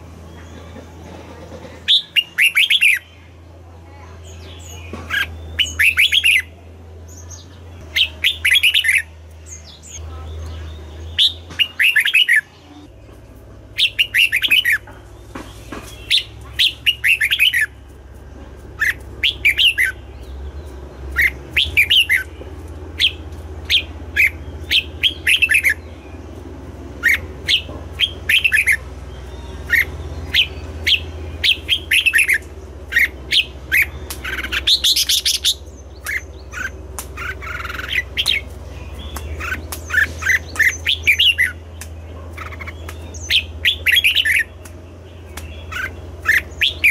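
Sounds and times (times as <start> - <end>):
bird chirping song: 0.0 - 46.9
steady low hum: 0.0 - 46.9.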